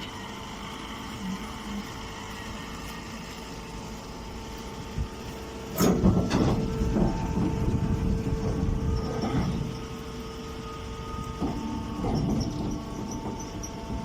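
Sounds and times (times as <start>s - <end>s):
baling machine humming: 0.0s - 14.0s.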